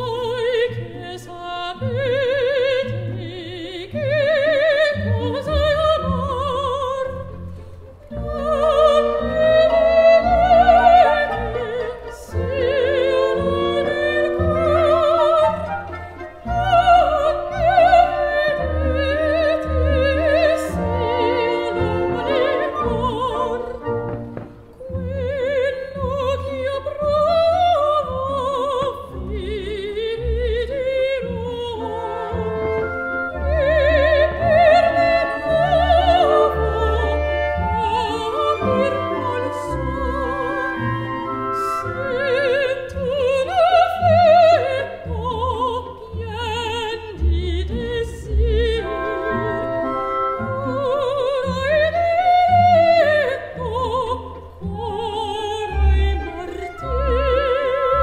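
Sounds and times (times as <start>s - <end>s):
operatic singing with vibrato: 0.0s - 58.0s
orchestral accompaniment: 0.0s - 58.0s.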